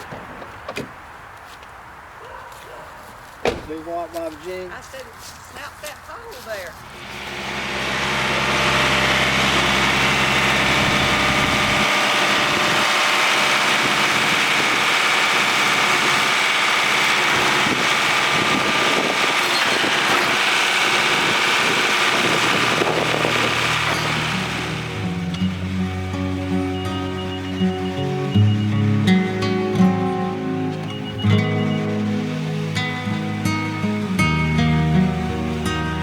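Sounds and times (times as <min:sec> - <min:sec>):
engine running: 0:06.8 - 0:36.0.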